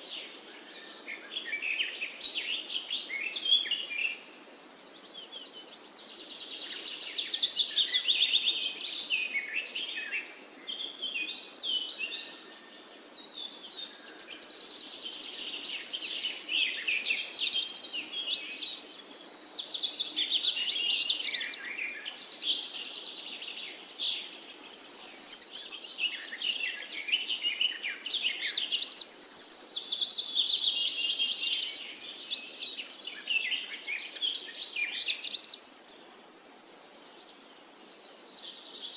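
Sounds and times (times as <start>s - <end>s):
chorus of birdsong: 0.0s - 38.9s.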